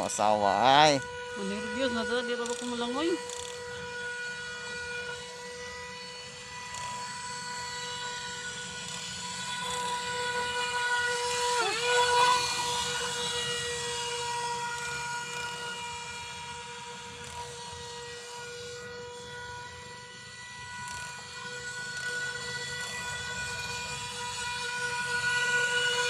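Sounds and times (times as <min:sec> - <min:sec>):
rc boat motor whining: 0:00.0 - 0:26.0.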